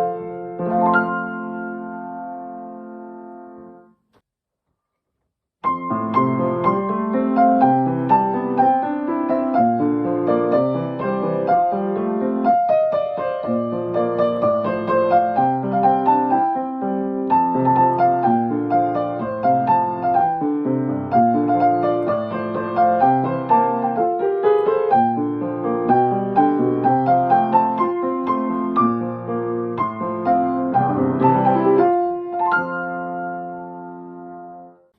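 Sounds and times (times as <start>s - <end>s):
piano-toned keyboard tune: 0.0s - 3.9s, 5.6s - 34.9s.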